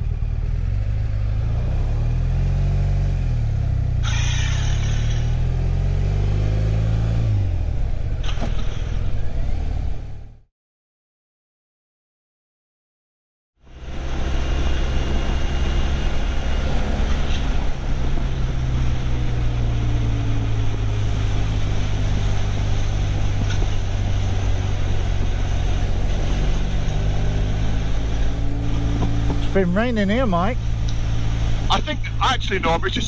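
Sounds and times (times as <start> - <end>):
motorcycle engine hum: 0.0 - 10.5, 13.6 - 33.0
wind and road noise: 0.0 - 10.5, 13.6 - 33.0.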